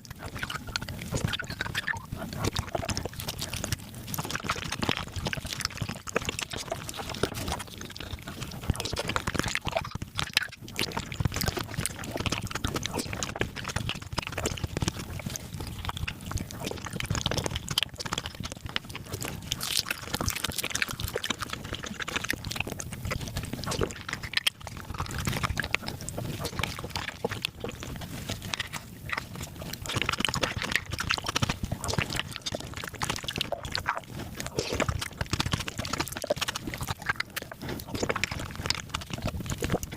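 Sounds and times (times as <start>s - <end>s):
fast wet chewing and slurping: 0.0s - 39.9s.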